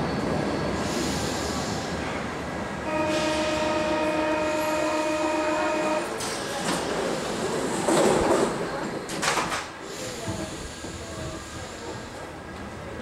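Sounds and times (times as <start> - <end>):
standing train running noise: 0.0 - 13.0.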